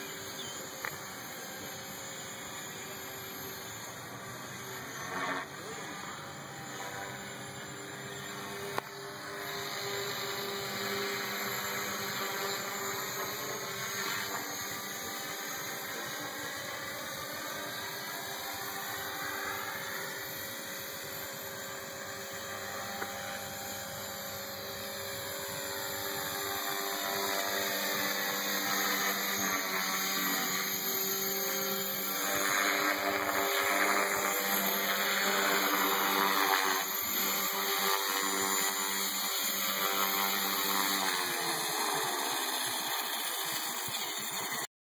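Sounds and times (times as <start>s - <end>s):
rc helicopter motor whine: 0.0s - 44.7s.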